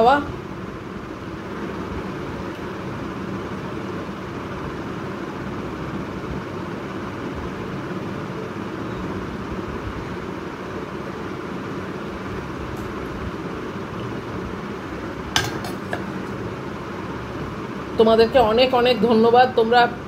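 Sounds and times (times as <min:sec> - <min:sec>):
room fan whirring: 0:00.0 - 0:20.0.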